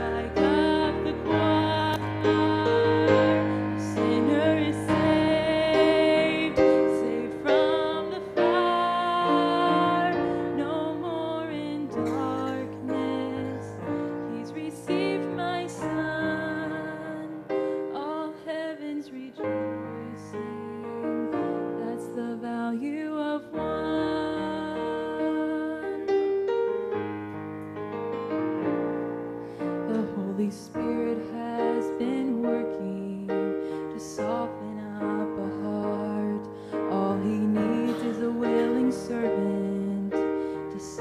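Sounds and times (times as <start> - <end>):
electric keyboard piano chords: 0.0 - 18.7, 19.4 - 41.0
woman singing gospel: 0.0 - 26.0, 29.9 - 41.0.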